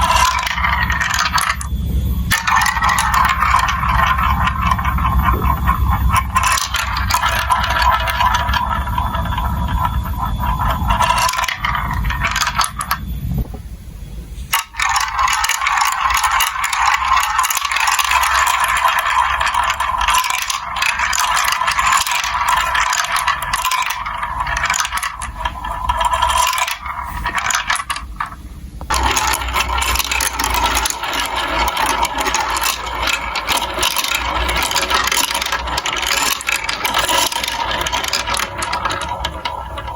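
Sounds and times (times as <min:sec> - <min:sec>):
marbles clattering on plastic tracks: 0:00.0 - 0:13.1, 0:14.5 - 0:39.9
low rolling rumble: 0:00.0 - 0:39.9.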